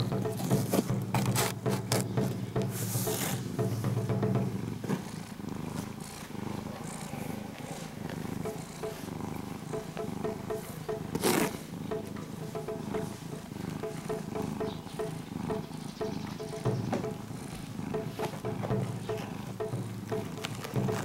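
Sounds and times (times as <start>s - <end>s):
background music: 0.0s - 5.8s, 8.3s - 21.0s
cat purring: 0.0s - 21.0s.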